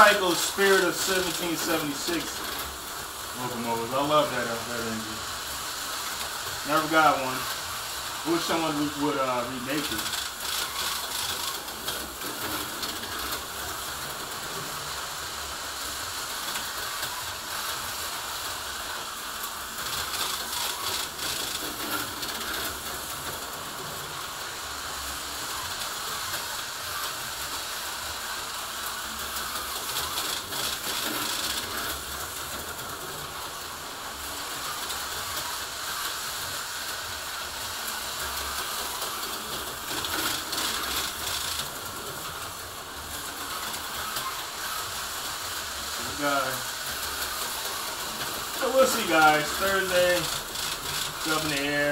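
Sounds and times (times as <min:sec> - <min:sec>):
model train whirring and rattling: 0:00.0 - 0:51.9.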